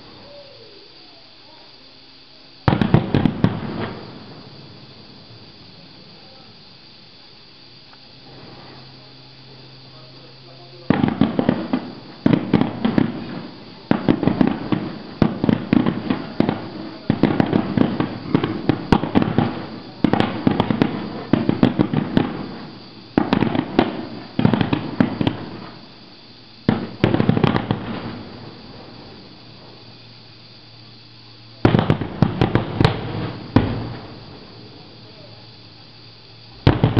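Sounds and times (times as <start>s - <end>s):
firework shells bursting: 1.8s - 36.9s.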